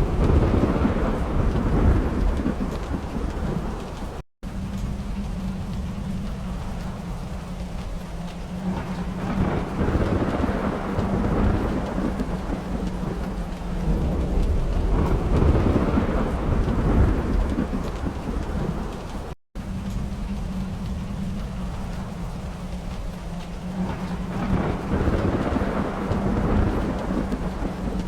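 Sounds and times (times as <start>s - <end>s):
rain falling: 0.0s - 28.0s
thunder rolling: 0.0s - 28.0s.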